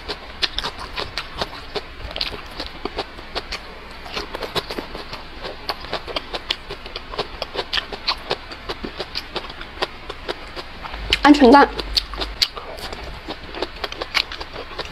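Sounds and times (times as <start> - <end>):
mouth chewing and smacking: 0.0 - 14.9.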